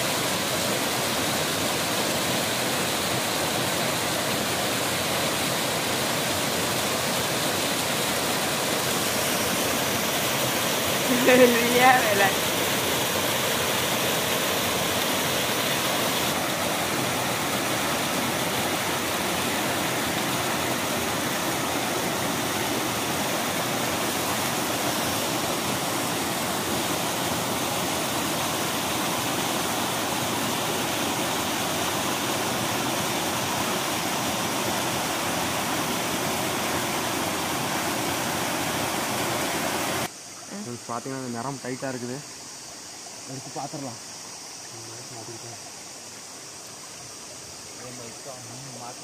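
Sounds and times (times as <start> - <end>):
river water rushing over rocks: 0.0 - 40.3.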